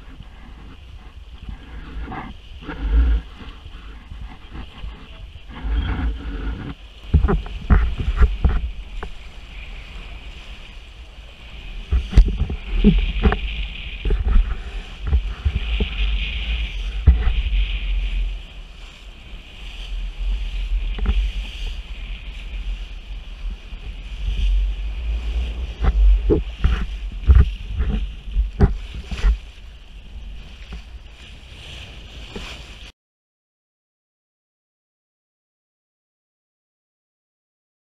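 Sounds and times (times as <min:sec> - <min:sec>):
rushing water: 0:00.0 - 0:32.9
wind rumble on microphone: 0:00.0 - 0:32.9
hull thudding and splashing: 0:00.1 - 0:32.9.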